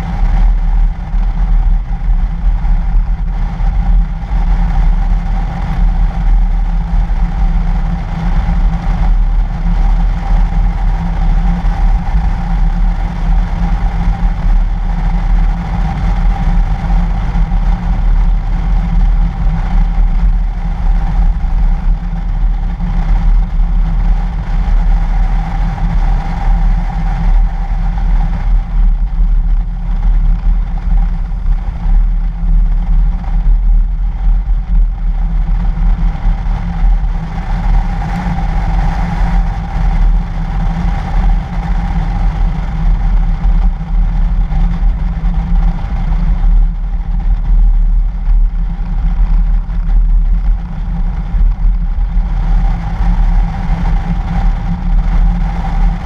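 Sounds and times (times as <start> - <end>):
mid-pitched hum: 0.0 - 56.0
vehicle driving rumble: 0.0 - 56.0
wind on microphone: 0.0 - 56.0.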